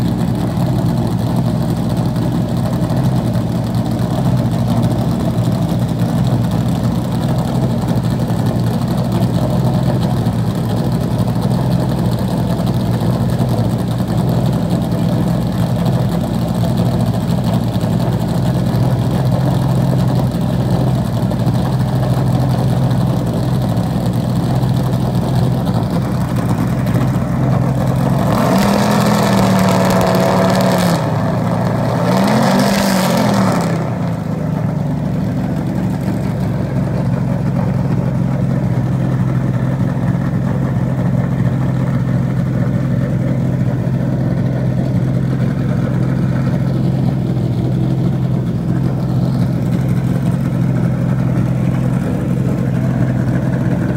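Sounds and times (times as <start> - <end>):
race car engine idling and revving: 0.0 - 53.9.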